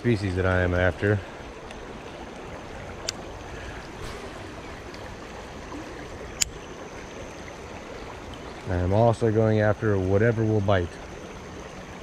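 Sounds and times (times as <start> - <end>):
river water running over rocks: 0.0 - 12.0.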